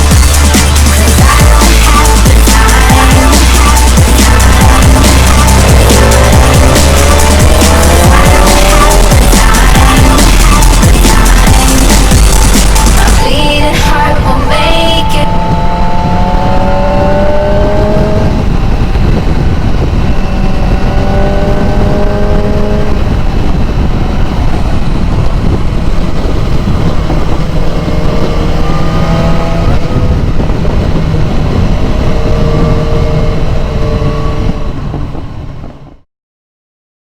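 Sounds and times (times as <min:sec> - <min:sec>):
motorcycle engine running: 0:00.0 - 0:36.0
wind noise: 0:00.0 - 0:36.0.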